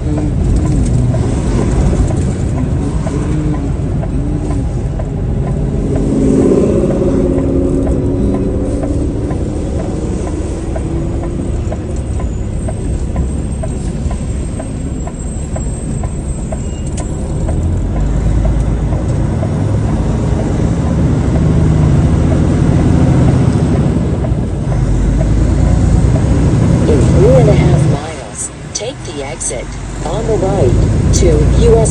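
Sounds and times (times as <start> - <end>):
faint regular ticking: 0.0 - 20.9, 24.0 - 31.9
truck engine and road rumble: 0.0 - 31.9.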